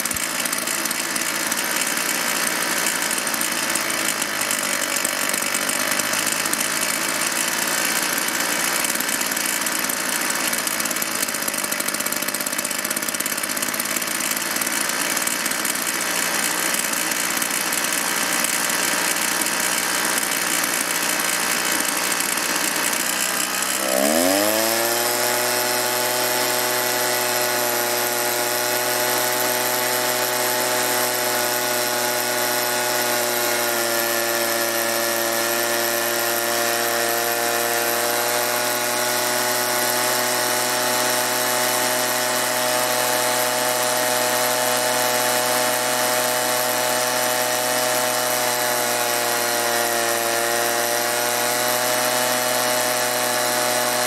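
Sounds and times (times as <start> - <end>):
leaf blower engine revving: 0.0 - 54.0.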